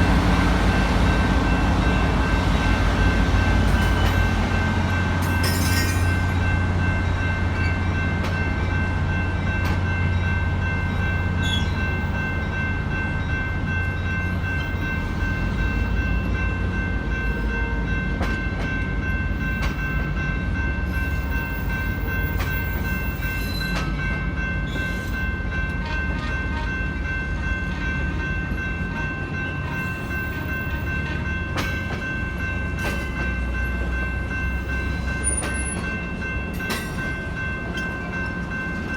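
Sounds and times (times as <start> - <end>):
locomotive engine drone: 0.0 - 38.9.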